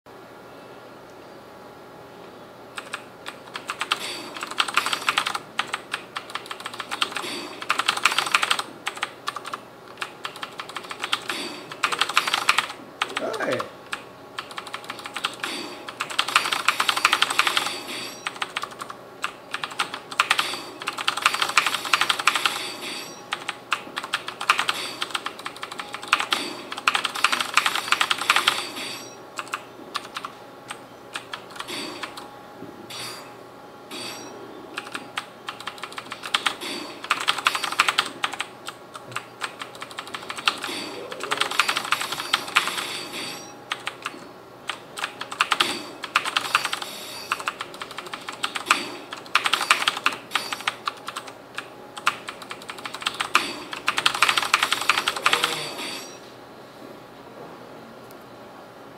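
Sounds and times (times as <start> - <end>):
clicky keyboard typing: 2.8 - 32.2, 34.8 - 42.9, 43.7 - 55.8.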